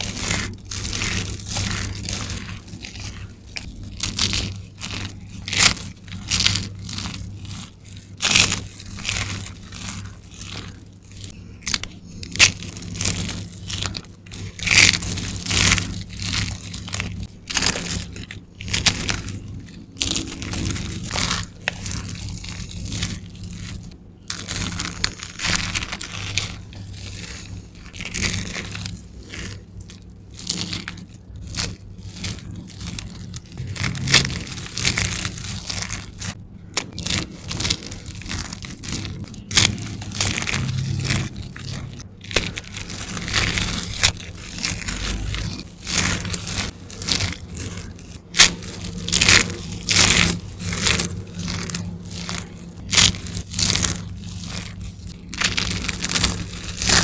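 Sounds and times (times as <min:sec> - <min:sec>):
soap shavings crunching in hands: 0:00.0 - 0:57.0.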